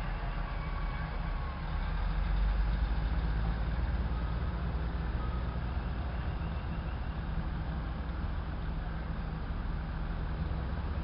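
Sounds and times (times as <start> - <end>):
diesel railcar engines rumbling: 0.0 - 11.0.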